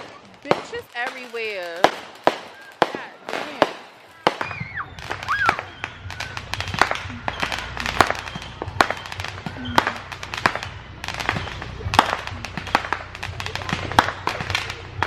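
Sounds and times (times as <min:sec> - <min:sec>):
fireworks and firecrackers banging: 0:00.0 - 0:15.0.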